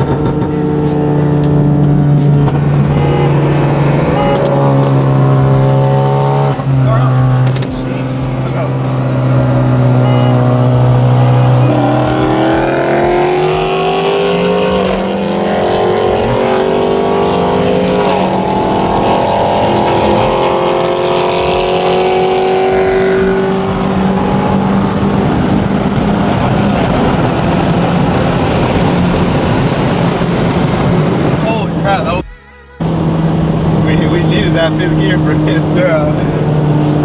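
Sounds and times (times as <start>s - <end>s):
turbocharged car engine accelerating: 0.0s - 32.0s, 32.8s - 37.0s.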